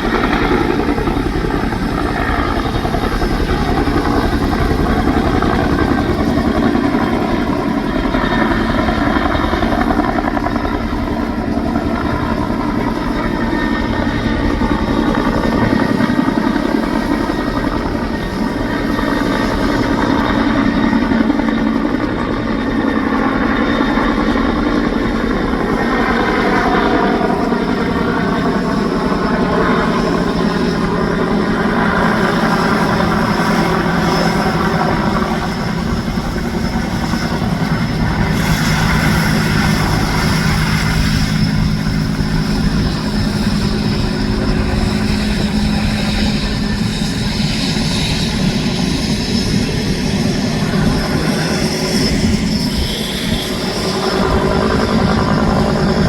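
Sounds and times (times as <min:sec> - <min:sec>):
helicopter rotor beating: 0:00.0 - 0:56.0
helicopter turbine whine: 0:00.0 - 0:56.0.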